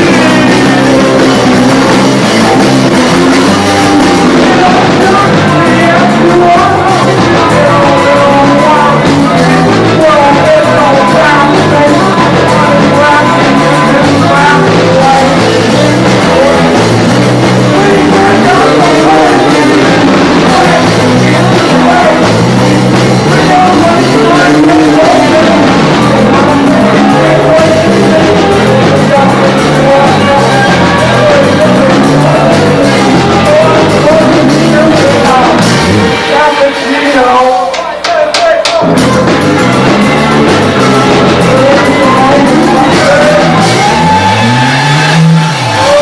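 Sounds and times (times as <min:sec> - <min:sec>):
drum kit: 0:00.0 - 0:46.0
electric guitar: 0:00.0 - 0:46.0
person singing: 0:00.0 - 0:46.0.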